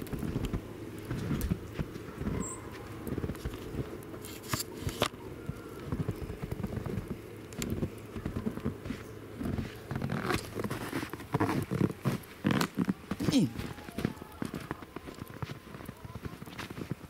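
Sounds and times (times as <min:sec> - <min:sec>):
footsteps crunching through snow: 0:00.0 - 0:17.0.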